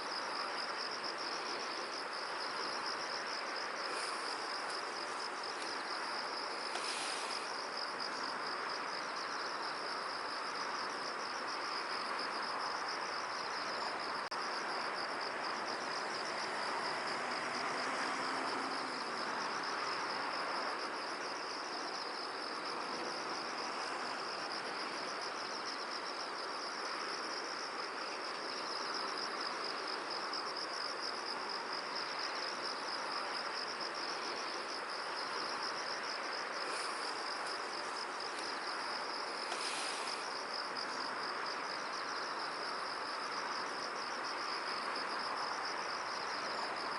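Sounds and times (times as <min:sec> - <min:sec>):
insects trilling: 0:00.0 - 0:46.9
wind hiss: 0:00.0 - 0:46.9.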